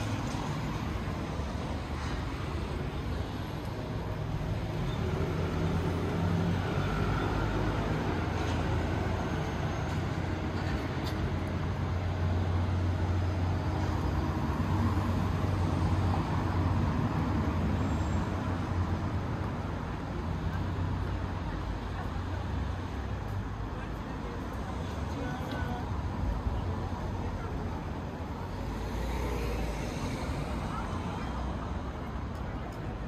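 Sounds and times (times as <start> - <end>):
road noise: 0.0 - 33.0
street traffic engine hum: 0.0 - 33.0.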